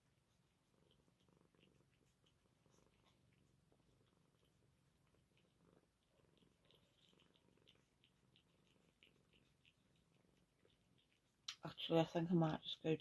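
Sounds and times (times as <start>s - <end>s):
cat purring: 0.0s - 13.0s
cat eating wet clicks: 1.0s - 11.6s.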